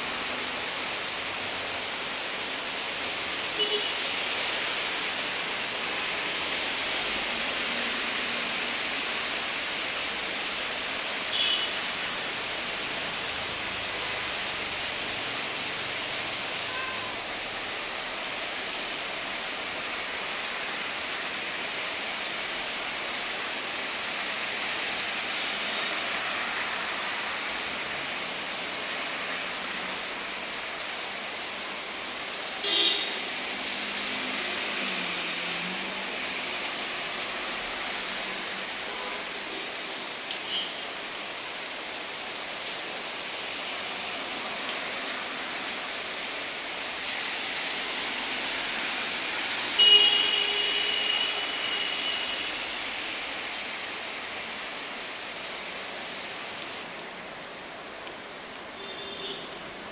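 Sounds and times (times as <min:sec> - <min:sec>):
rain falling steadily: 0:00.0 - 0:59.9.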